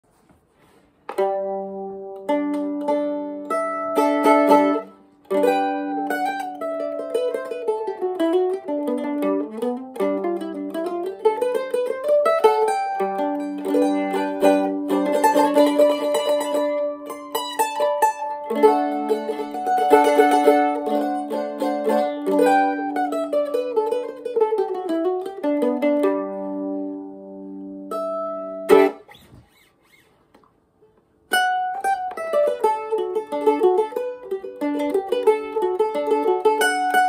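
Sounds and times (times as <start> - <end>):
mandolin flatpicked tune: 0.7 - 37.0.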